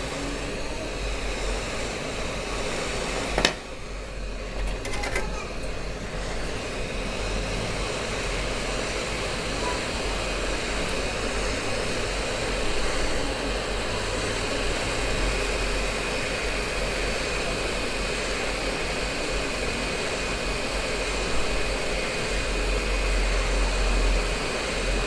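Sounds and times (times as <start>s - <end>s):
hot air blower rushing: 0.0s - 25.0s
thin steady whine: 0.0s - 25.0s.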